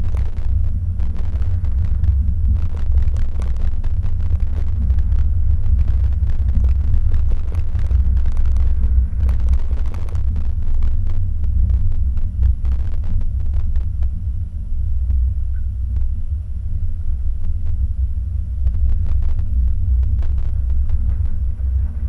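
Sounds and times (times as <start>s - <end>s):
crackles on snow: 0.0s - 22.0s
wind and road noise rumble: 0.0s - 22.0s.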